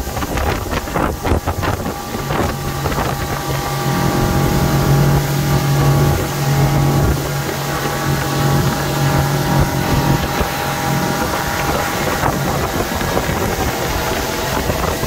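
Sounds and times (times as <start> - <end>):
outboard motor drone: 0.0 - 15.0
rushing water: 0.0 - 15.0
wind buffeting microphone: 0.0 - 15.0.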